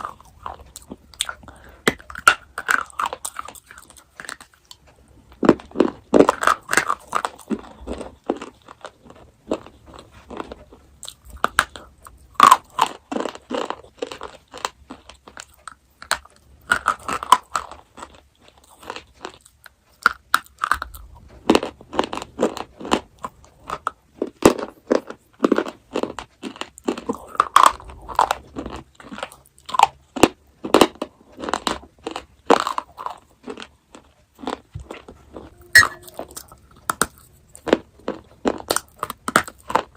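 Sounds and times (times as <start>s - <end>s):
chewing crunchy chocolate: 0.0s - 39.9s.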